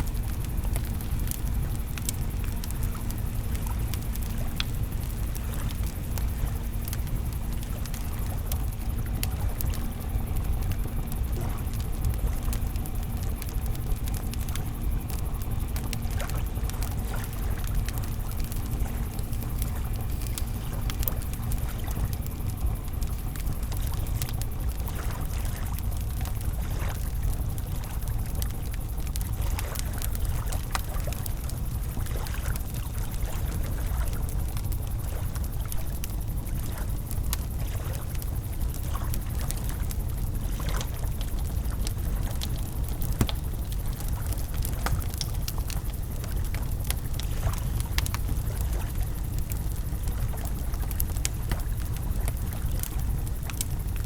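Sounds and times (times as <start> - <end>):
campfire crackling and popping: 0.0 - 54.0
faint steady hum: 0.0 - 54.0.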